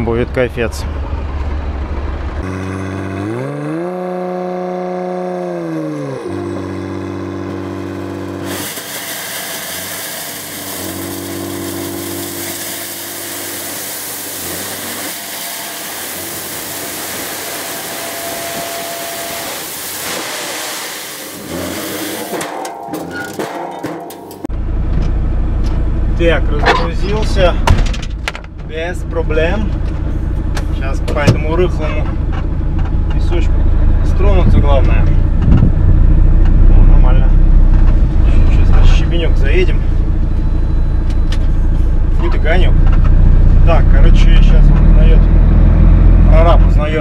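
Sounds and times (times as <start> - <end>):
diesel engine revving: 0.0 - 22.4, 28.8 - 47.0.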